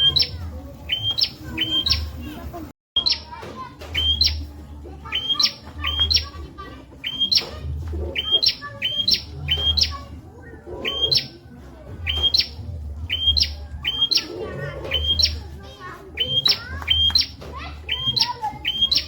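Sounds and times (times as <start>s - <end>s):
bird calling in sharp chirps: 0.0s - 2.2s, 3.0s - 4.5s, 5.1s - 6.4s, 7.0s - 11.4s, 12.0s - 15.6s, 16.2s - 19.0s.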